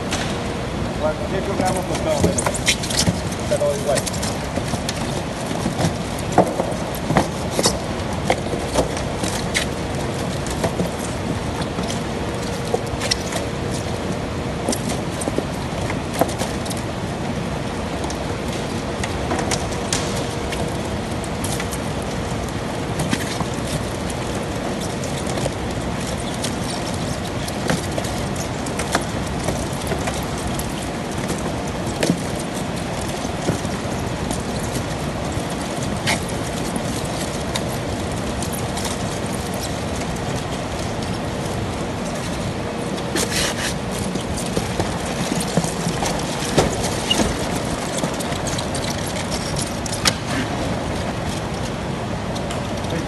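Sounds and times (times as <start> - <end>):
langoustines clicking and rattling: 0.0 - 53.0
machinery hum: 0.0 - 53.0.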